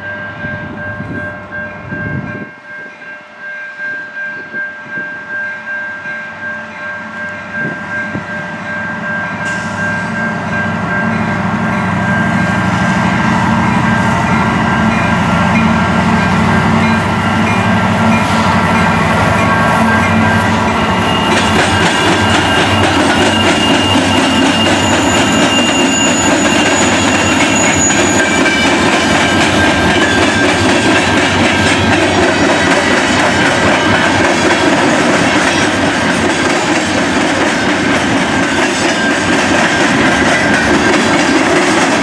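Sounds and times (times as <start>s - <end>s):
high-pitched tones: 0.0s - 34.3s
train rolling: 0.0s - 42.0s.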